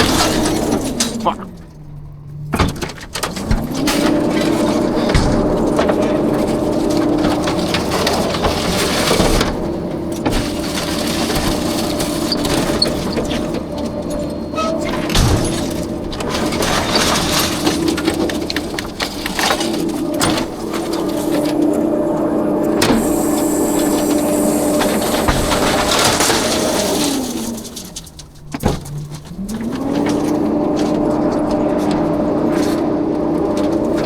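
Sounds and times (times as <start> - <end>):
garbage truck hum: 0.0 - 34.0
trash and metal clattering: 0.0 - 34.0.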